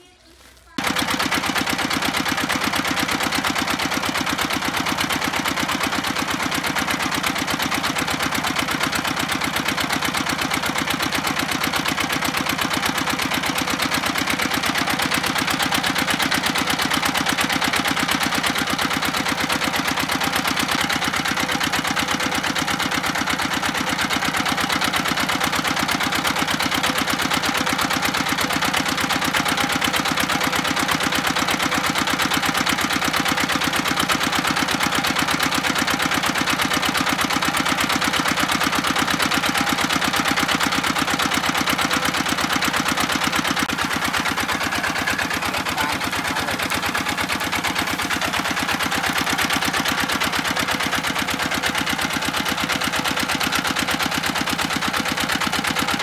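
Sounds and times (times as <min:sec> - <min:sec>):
small engine chugging: 0:00.0 - 0:56.0.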